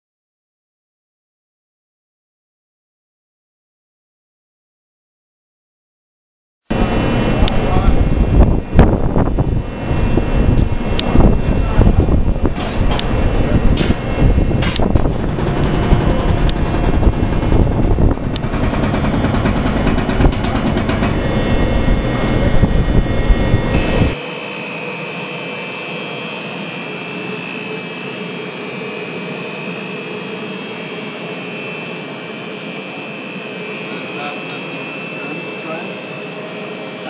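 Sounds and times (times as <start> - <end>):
electric motor whine: 6.7 - 37.0
heavy mechanical rumble: 6.7 - 37.0
machine hum: 6.7 - 37.0.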